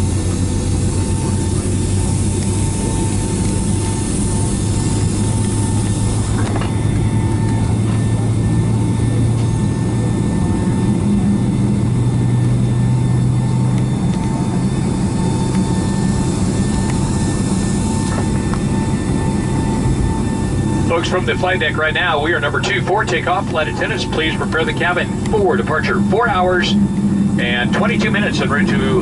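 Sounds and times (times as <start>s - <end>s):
jet engines low hum: 0.0s - 29.0s.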